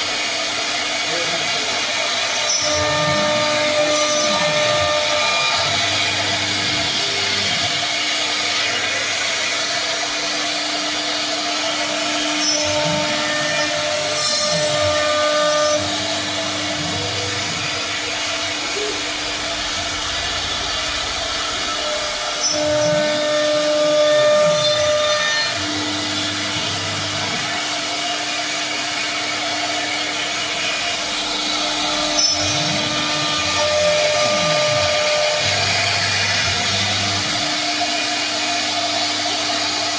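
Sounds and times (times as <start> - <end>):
cnc machine running: 0.0 - 39.9.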